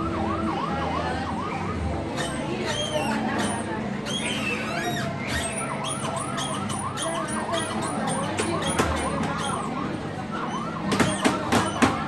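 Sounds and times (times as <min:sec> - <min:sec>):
electronic yelping siren: 0:00.0 - 0:11.4.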